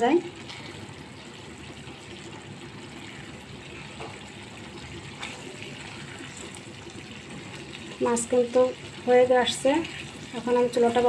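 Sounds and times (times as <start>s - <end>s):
curry simmering: 0.0s - 11.0s.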